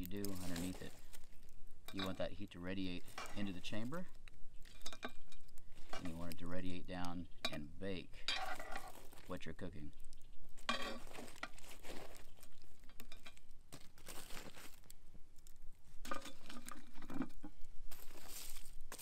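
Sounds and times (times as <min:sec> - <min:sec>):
tongs raking through embers: 0:00.0 - 0:19.0.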